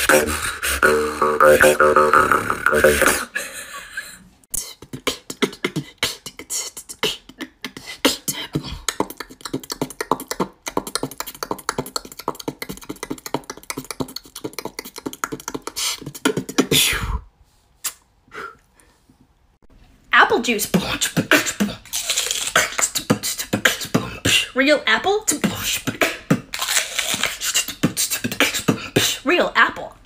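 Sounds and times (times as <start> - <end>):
girl beatboxing: 0.0 - 3.3, 4.5 - 17.2, 20.2 - 30.0.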